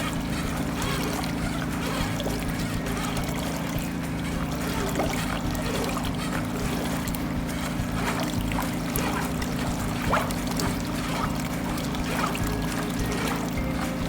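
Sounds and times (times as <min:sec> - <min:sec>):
drain-jetting machine running: 0:00.0 - 0:14.0
water trickling and splashing: 0:00.0 - 0:14.0.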